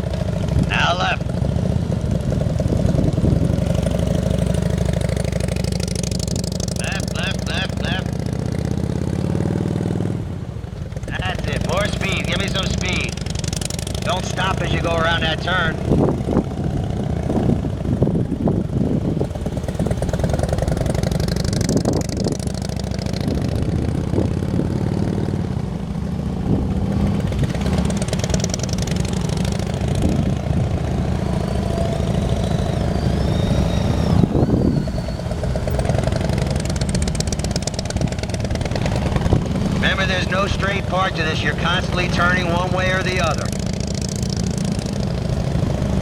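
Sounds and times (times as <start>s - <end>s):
motorcycle engines rumbling: 0.0s - 46.0s.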